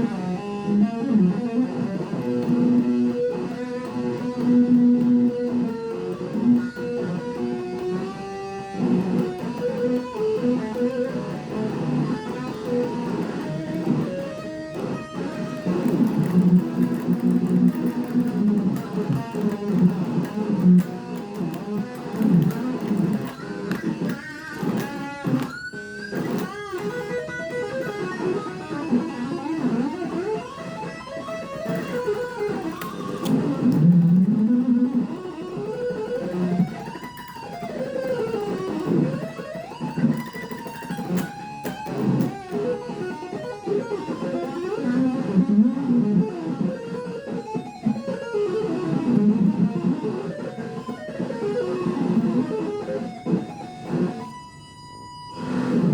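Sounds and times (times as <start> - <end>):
electric guitar lead line: 0.0 - 55.9.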